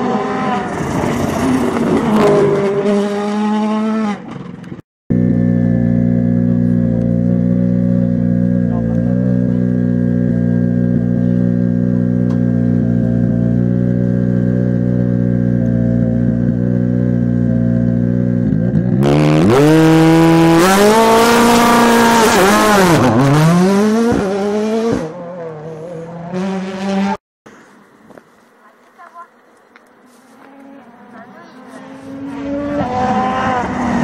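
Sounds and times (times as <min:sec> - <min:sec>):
rally car engine revving: 0:00.0 - 0:27.2, 0:30.4 - 0:34.0.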